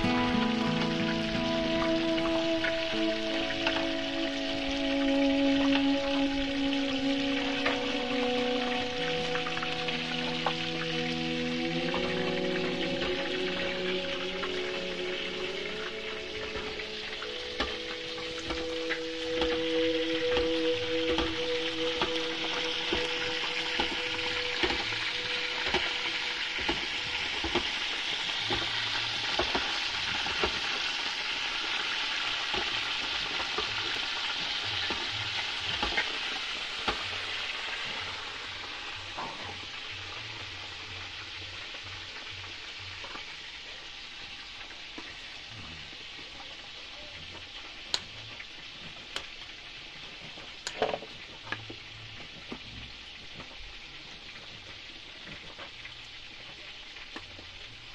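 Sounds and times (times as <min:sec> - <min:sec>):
pot sizzling over fire: 0:00.0 - 0:57.9.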